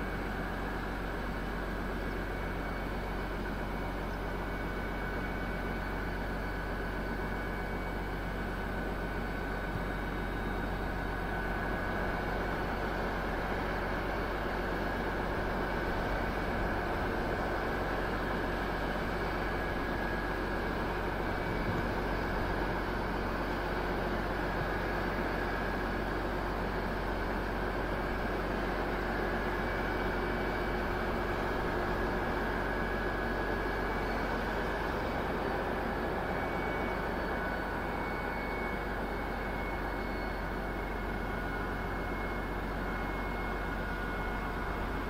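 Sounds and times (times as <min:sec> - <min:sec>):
diesel locomotive engine running: 0:00.0 - 0:45.0
faint high whine: 0:00.0 - 0:45.0.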